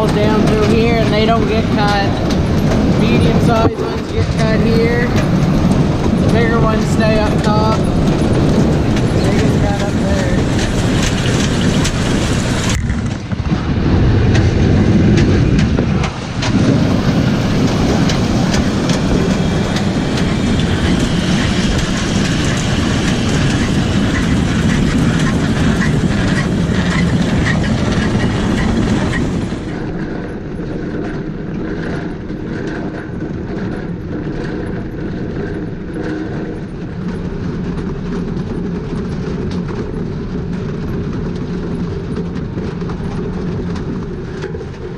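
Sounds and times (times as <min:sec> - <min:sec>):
machine rattling: 0:00.0 - 0:44.9.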